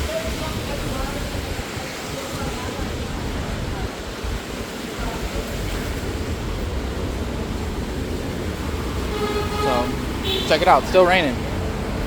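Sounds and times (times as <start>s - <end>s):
rain falling on street: 0.0s - 12.0s.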